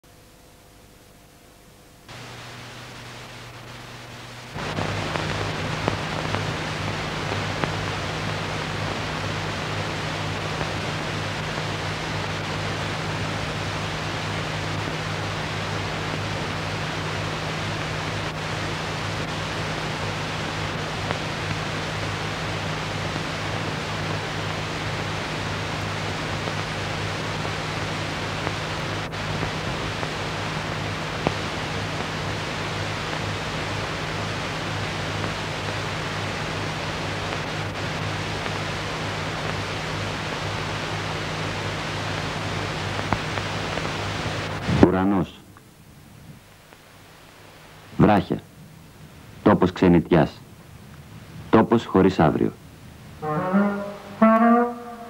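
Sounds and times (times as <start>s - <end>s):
low electrical hum: 0.0s - 55.0s
film soundtrack hiss: 0.1s - 55.0s.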